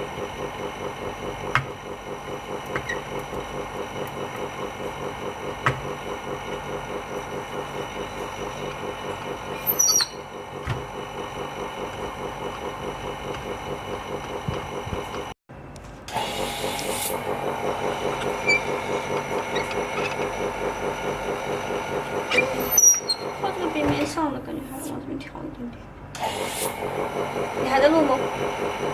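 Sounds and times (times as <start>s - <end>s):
vacuum pump motor pulsing: 0.0s - 28.9s.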